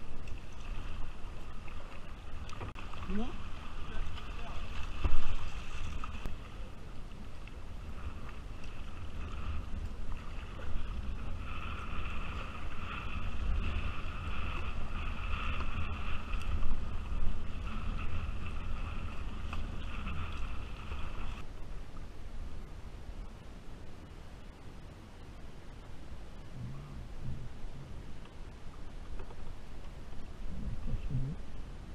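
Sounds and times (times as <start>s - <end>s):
wind on microphone: 0.0s - 23.3s, 25.9s - 31.9s
river water rushing and splashing: 0.0s - 26.4s
low rumble of water: 0.0s - 31.9s.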